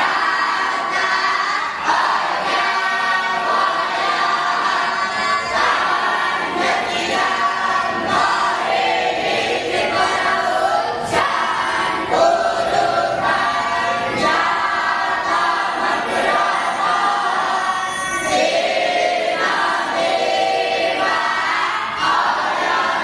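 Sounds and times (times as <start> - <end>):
group singing in unison: 0.0 - 23.0.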